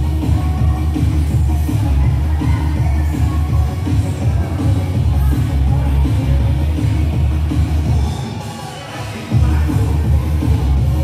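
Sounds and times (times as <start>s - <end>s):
loud dance music with bass beat: 0.0s - 11.0s.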